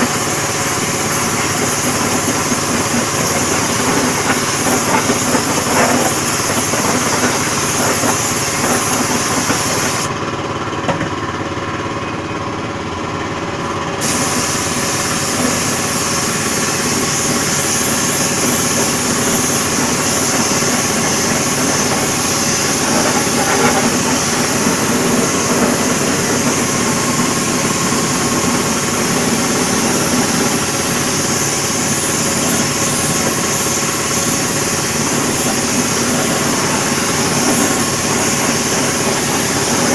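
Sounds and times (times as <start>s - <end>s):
spray gun hissing: 0.0s - 10.1s, 14.0s - 39.9s
air compressor running: 0.0s - 39.9s.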